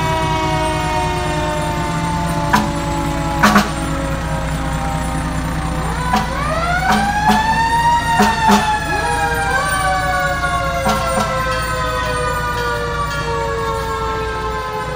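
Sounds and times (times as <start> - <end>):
fire truck siren wailing: 0.0 - 14.9
lower siren whine: 0.0 - 14.9
truck engine rumble: 0.0 - 14.9.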